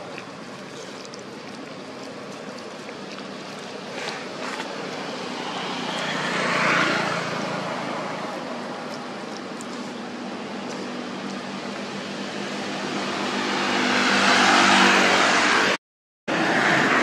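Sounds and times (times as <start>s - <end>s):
distant engine passing: 3.0s - 17.0s.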